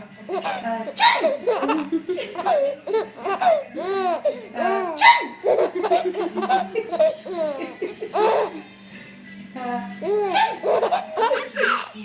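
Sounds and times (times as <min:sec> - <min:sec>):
baby laughing: 0:00.3 - 0:08.7, 0:10.0 - 0:12.0.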